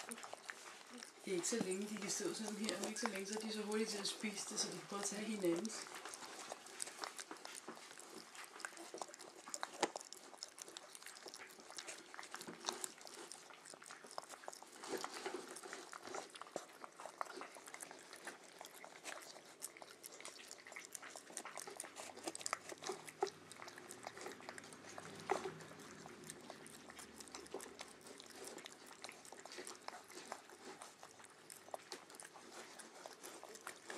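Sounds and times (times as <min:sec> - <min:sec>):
puppies chewing food: 0:00.0 - 0:33.9.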